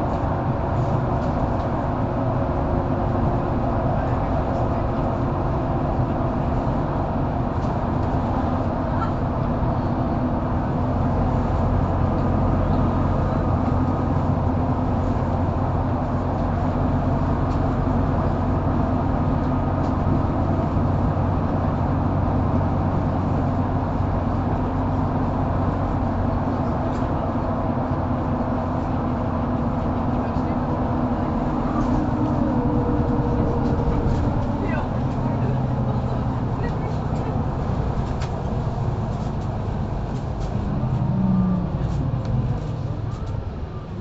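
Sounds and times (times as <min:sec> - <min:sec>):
bus engine drone: 0:00.0 - 0:44.0
road noise: 0:00.0 - 0:44.0.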